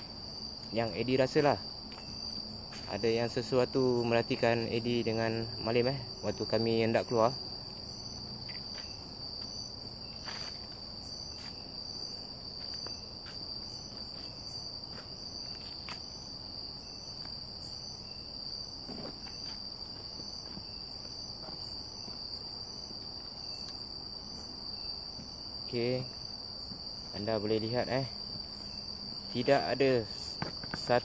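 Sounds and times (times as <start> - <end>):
insect high-pitched trill: 0.0 - 31.0
insect pulsing call: 0.0 - 31.0.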